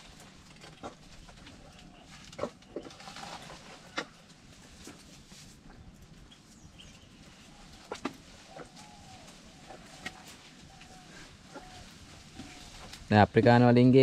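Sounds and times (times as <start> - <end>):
branches snapping: 0.0 - 6.2, 7.5 - 13.1
leaves rustling: 0.0 - 13.9.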